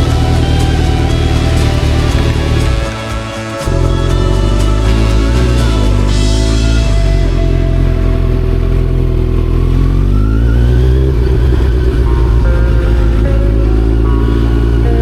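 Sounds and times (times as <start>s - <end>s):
motorcycle engine accelerating: 0.0s - 15.0s
music playing: 0.0s - 15.0s.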